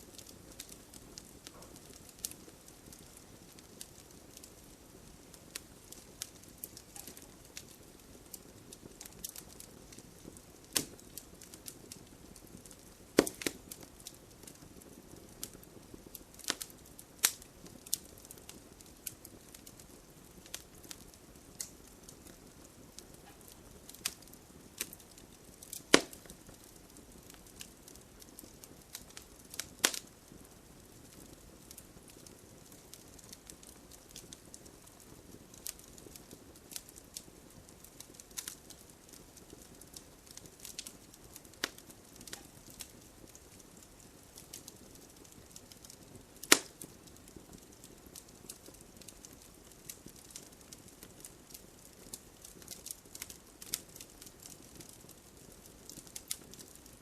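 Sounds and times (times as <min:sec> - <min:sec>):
campfire burning hiss: 0:00.0 - 0:57.0
campfire pops and snaps: 0:00.1 - 0:57.0.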